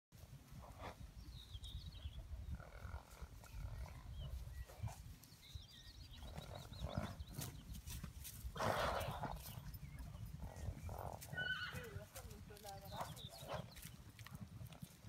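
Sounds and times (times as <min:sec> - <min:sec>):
hooves thudding on grass: 0:00.2 - 0:15.0
small birds chirping: 0:00.8 - 0:14.6.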